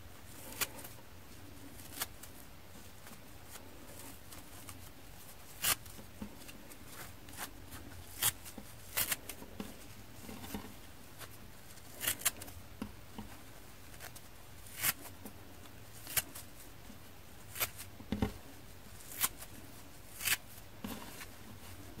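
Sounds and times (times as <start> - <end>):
fibres rustling: 0.0 - 22.0.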